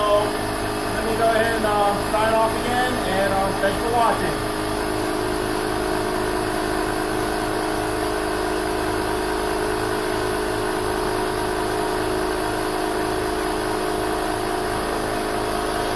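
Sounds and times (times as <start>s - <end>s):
small air compressor running: 0.0s - 15.9s.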